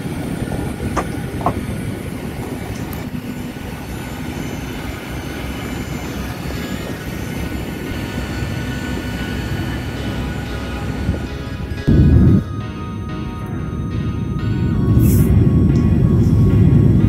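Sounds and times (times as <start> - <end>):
aircraft and equipment hum: 0.0 - 17.0
wind buffeting microphone: 0.0 - 17.0.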